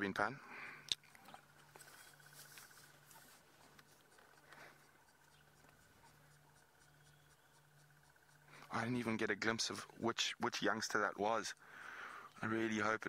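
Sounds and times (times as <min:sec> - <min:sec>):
low steady hum: 0:00.0 - 0:13.0
faint high pulsing tone: 0:01.2 - 0:11.7.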